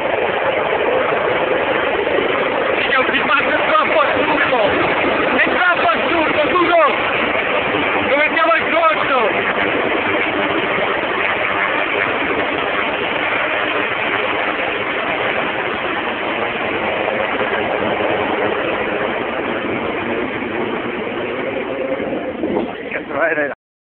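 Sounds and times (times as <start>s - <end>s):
helicopter rotor and engines: 0.0s - 23.6s.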